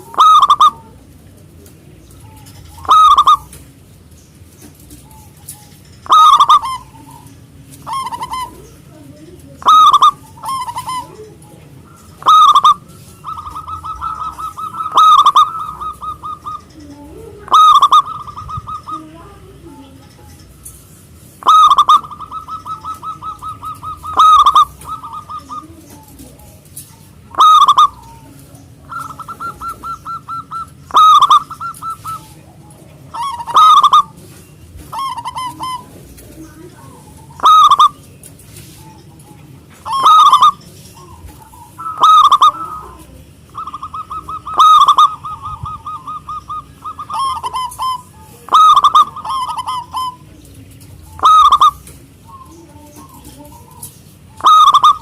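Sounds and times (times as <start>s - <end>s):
dove cooing and trilling: 0.0s - 55.0s.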